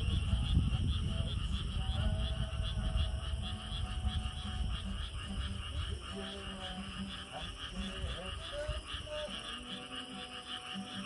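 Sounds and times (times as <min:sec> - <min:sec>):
chorus of frogs trilling: 0:00.0 - 0:11.0.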